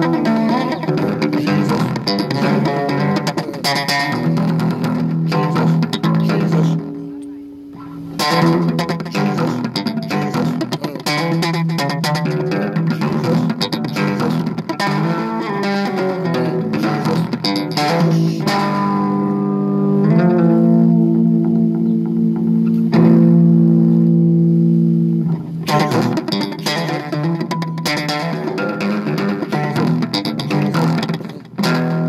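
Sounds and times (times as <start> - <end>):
bass guitar playing: 0.0 - 32.0.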